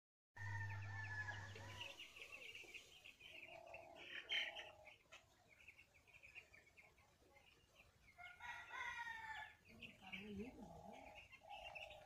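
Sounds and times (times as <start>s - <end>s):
chicks cheeping: 0.4s - 12.0s.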